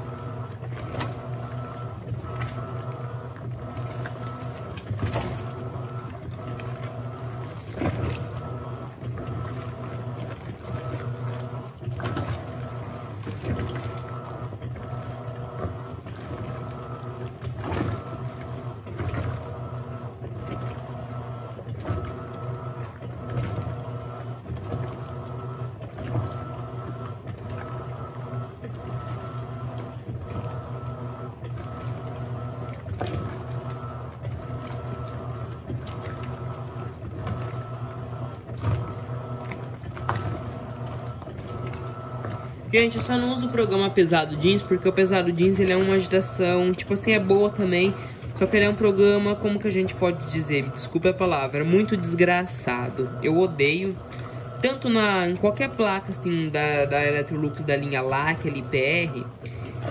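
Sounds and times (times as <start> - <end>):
washing machine motor hum: 0.0 - 59.9
water sloshing and splashing: 0.0 - 59.9.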